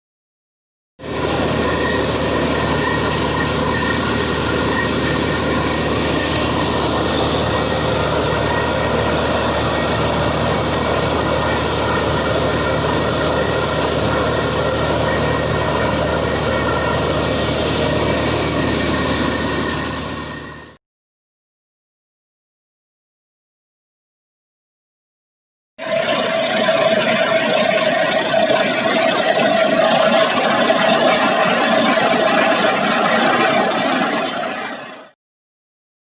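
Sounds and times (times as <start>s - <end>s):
drilling rig mechanical noise: 1.0s - 20.8s, 25.8s - 35.1s.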